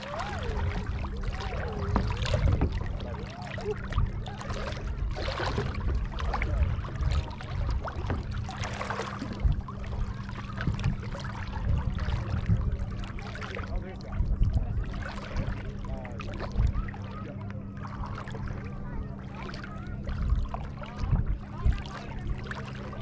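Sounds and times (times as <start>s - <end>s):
low rumble: 0.0s - 23.0s
seawater sloshing and splashing: 0.0s - 23.0s.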